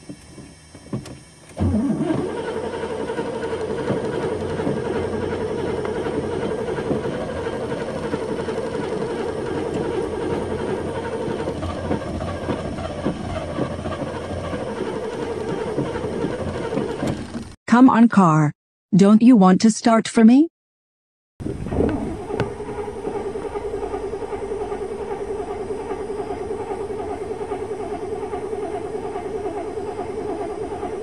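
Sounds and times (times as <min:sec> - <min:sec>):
starter motor cranking engine: 0:00.0 - 0:17.6, 0:21.4 - 0:31.0.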